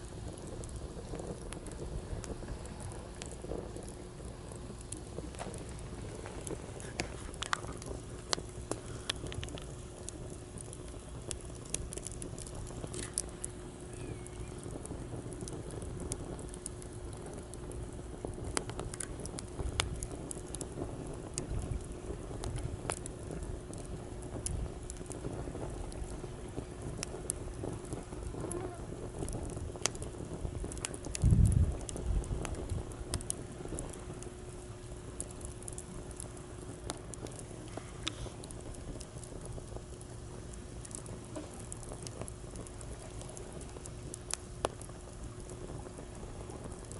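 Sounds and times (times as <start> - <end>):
campfire crackling and popping: 0.0 - 46.9
faint steady hum: 0.0 - 46.9.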